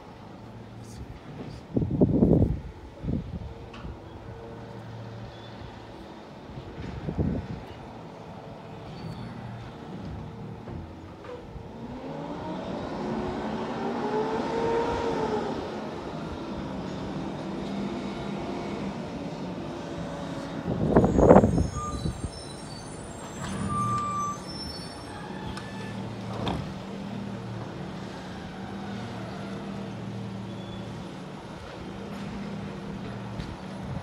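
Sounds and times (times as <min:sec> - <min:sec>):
garbage truck engine: 0:02.8 - 0:34.0.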